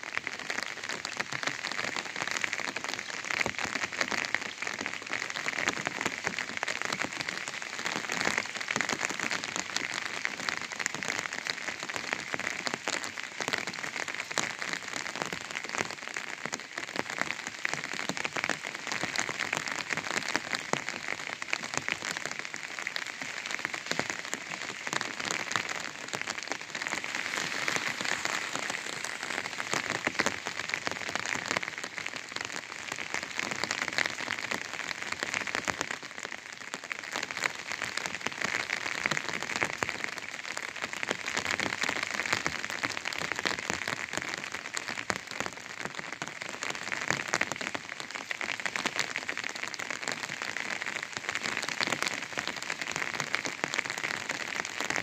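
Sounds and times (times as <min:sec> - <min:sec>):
rain pattering on an umbrella: 0:00.0 - 0:55.0.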